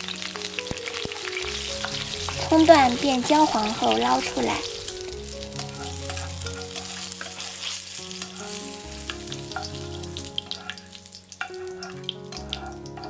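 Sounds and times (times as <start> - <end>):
oil crackling and popping: 0.0 - 13.0
onions sizzling in hot oil: 0.0 - 13.0.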